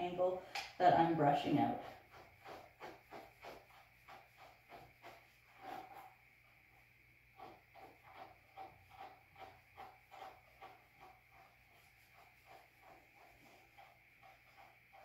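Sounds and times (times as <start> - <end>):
brush stroking dog's coat: 1.0 - 6.8, 7.4 - 15.0.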